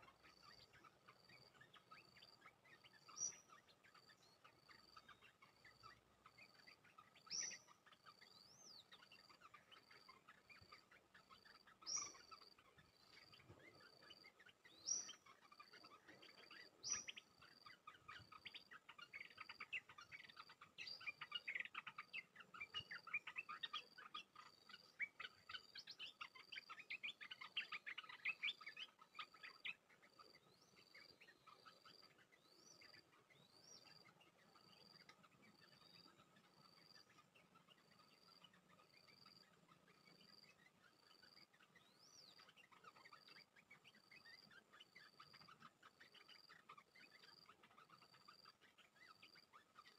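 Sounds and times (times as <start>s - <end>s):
birds rising calls: 0.0s - 49.9s.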